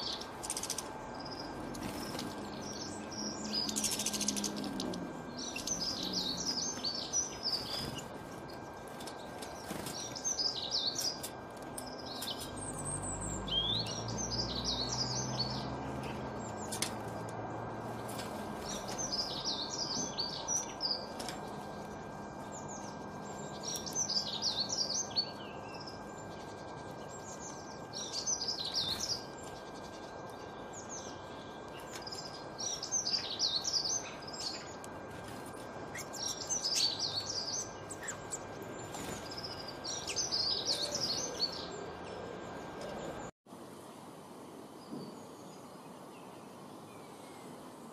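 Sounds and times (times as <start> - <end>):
songbird twittering: 0.0 - 16.8, 18.6 - 34.8, 35.9 - 43.3
outdoor background noise: 0.0 - 47.9.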